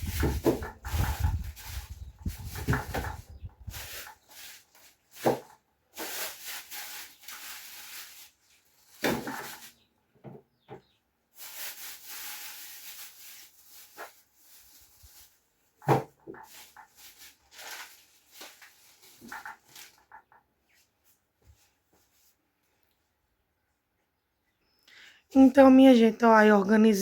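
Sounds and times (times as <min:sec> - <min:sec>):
rustling of food packaging: 0:00.0 - 0:10.0, 0:11.2 - 0:23.2.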